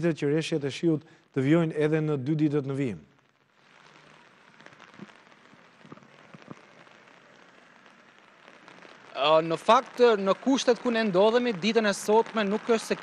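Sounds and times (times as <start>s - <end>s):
faint rain pattering: 0.0s - 13.0s.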